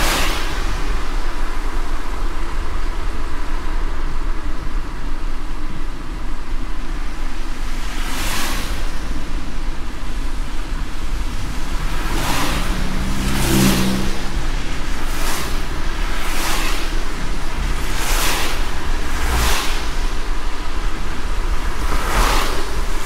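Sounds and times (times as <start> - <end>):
car engine hum: 0.0 - 23.0
cars swishing on wet road: 0.0 - 23.0
heavy rain: 0.0 - 23.0.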